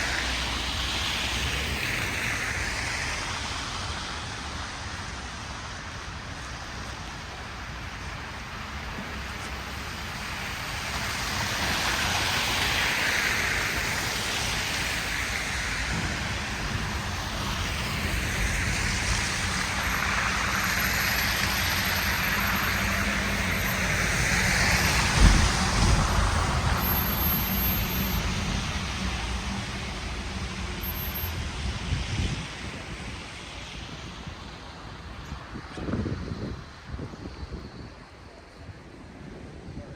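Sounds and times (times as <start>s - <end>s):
vehicle tyre noise passing: 0.0s - 37.9s.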